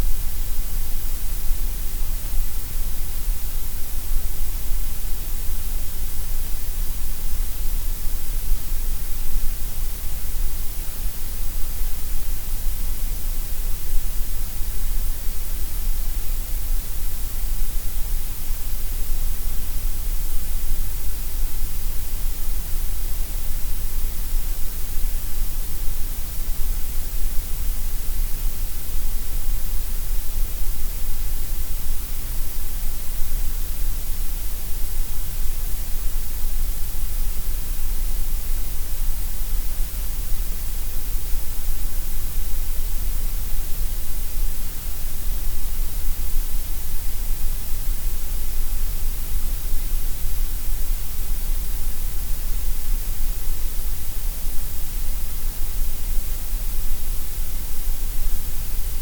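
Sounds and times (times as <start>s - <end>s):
gray noise hiss: 0.0s - 59.0s.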